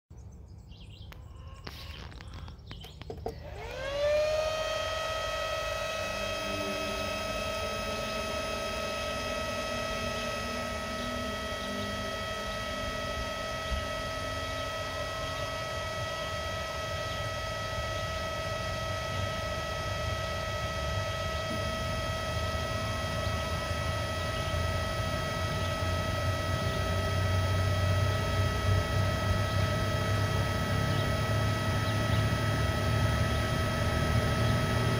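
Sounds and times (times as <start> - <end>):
low motor hum: 0.1 - 34.9
electric motor whine: 1.0 - 34.9.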